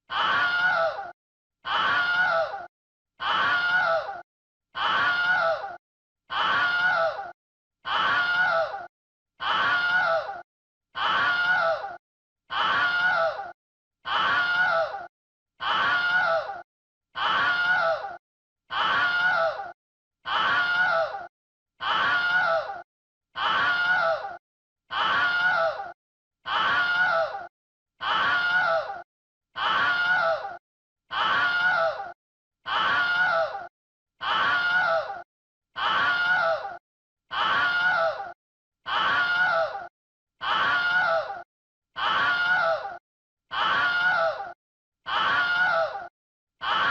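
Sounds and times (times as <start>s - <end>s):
person screaming: 0.0s - 4.2s, 4.8s - 7.3s, 7.9s - 10.4s, 11.0s - 16.6s, 17.2s - 22.8s, 23.4s - 29.0s, 29.6s - 35.2s, 35.8s - 41.4s, 42.0s - 46.9s.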